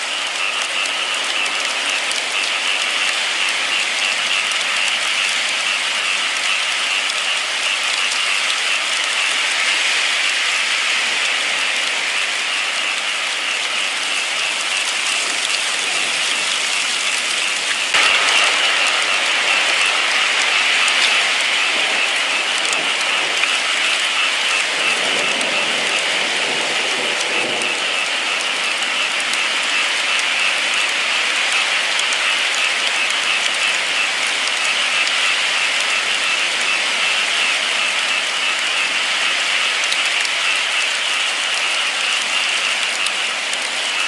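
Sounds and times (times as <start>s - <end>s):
steady rain: 0.0s - 44.0s.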